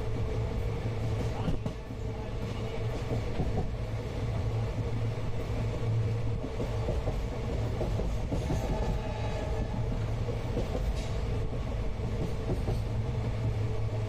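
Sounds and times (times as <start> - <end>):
train rumbling from inside coach: 0.0 - 14.0.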